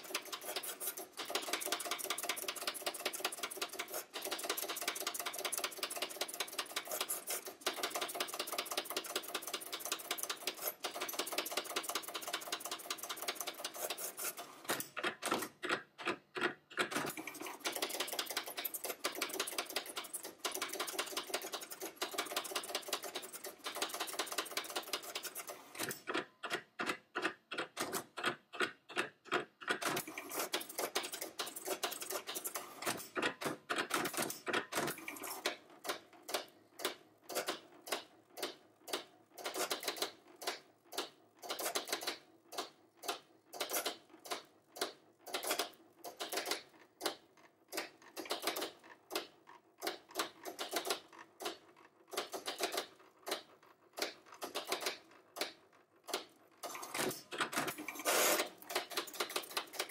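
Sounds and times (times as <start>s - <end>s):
pen plotter clicking: 0.0s - 59.9s.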